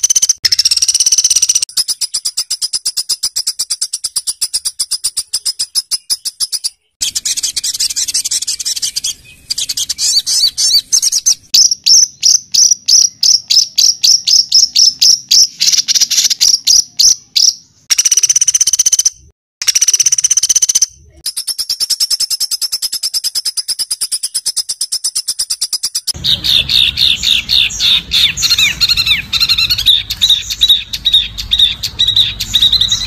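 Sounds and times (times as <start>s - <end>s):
songbird harsh repeated notes: 0.0s - 33.0s.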